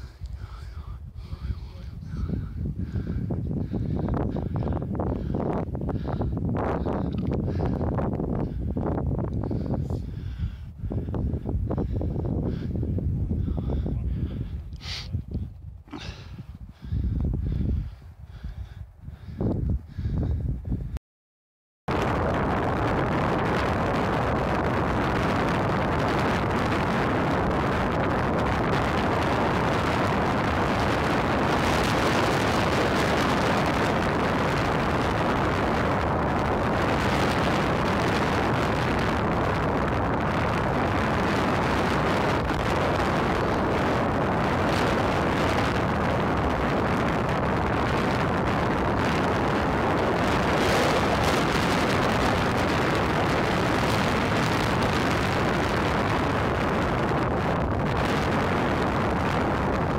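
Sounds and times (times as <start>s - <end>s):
wind buffeting microphone: 0.0s - 21.0s, 21.9s - 59.9s.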